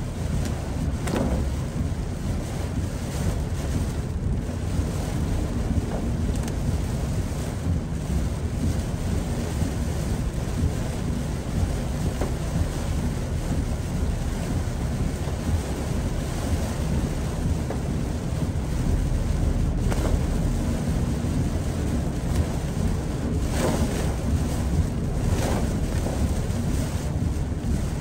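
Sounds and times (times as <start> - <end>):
car driving on wet road: 0.0 - 28.0
heavy rain: 0.0 - 28.0.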